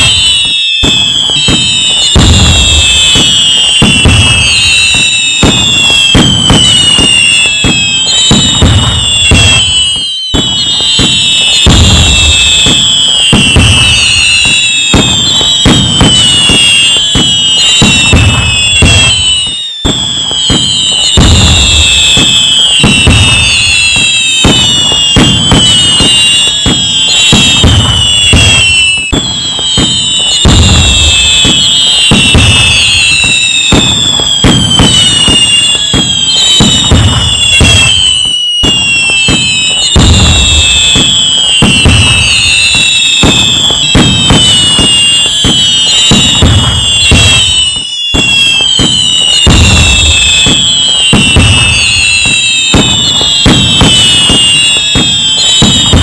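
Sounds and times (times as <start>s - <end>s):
fireworks bangs and crackles: 0.0s - 56.0s
whistling rockets: 0.0s - 56.0s.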